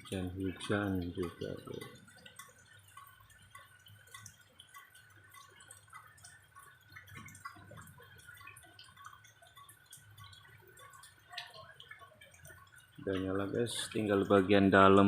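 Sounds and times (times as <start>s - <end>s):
rain dripping: 0.0s - 15.0s.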